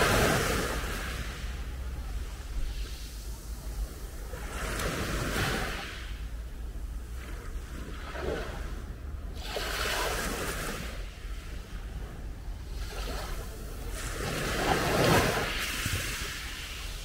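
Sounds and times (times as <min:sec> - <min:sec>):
small waves washing onto beach: 0:00.0 - 0:17.0.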